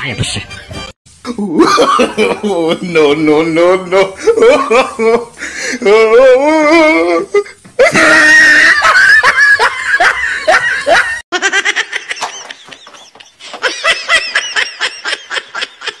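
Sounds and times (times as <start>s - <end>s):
person laughing hard: 1.3s - 2.9s, 3.9s - 16.0s.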